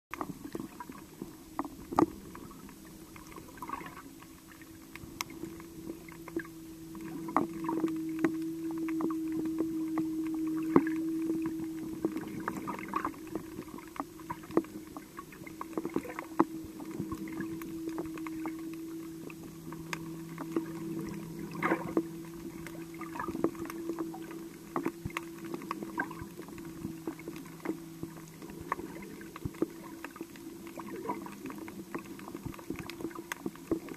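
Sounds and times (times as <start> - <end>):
underwater low hum: 0.1 - 33.9.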